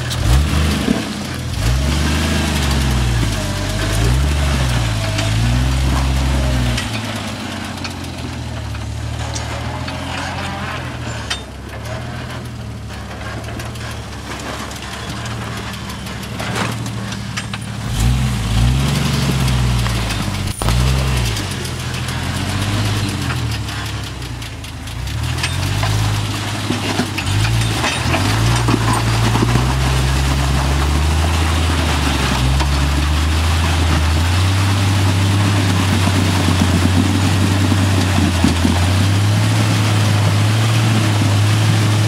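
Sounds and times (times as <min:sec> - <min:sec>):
engine revving at low speed: 0:00.0 - 0:42.0.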